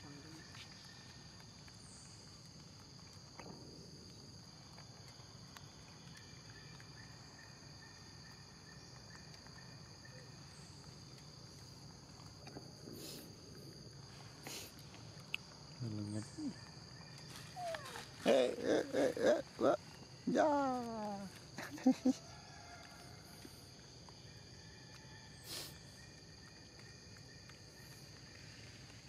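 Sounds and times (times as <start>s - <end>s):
insects chorus: 0.0s - 29.0s.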